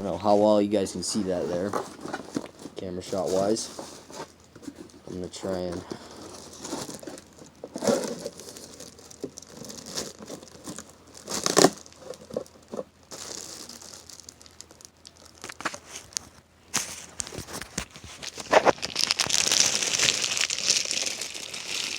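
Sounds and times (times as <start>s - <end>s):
packaging crinkling and rustling: 0.0s - 21.9s.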